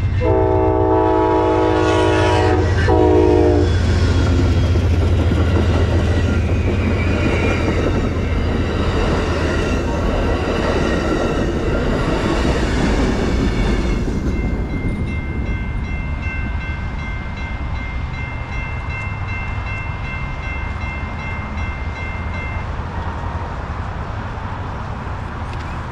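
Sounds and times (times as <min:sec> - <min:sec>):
crossing bell ringing: 0:00.0 - 0:23.4
locomotive engine passing: 0:00.0 - 0:25.9
train wheels rumbling and clacking: 0:00.0 - 0:25.9.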